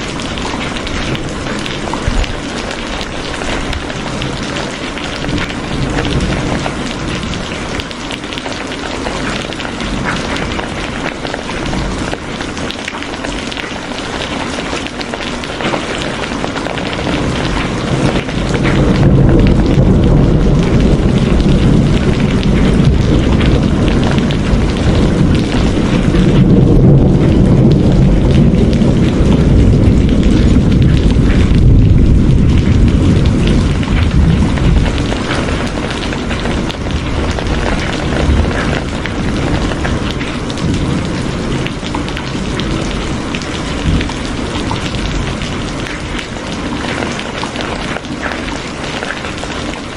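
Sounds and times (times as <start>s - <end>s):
rolling thunder: 0.0s - 13.0s, 15.4s - 49.2s
steady rain: 0.0s - 49.9s.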